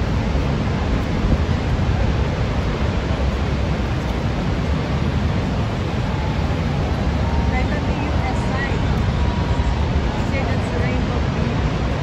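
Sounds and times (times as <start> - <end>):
waterfall roaring: 0.0 - 12.0
wind gusting on microphone: 0.0 - 12.0.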